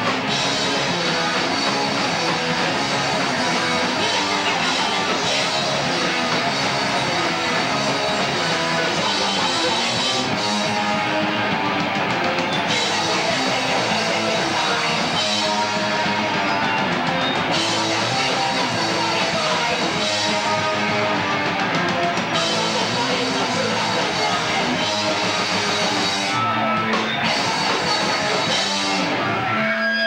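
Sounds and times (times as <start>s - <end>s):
drum kit: 0.0s - 30.0s
electric guitar: 0.0s - 30.0s.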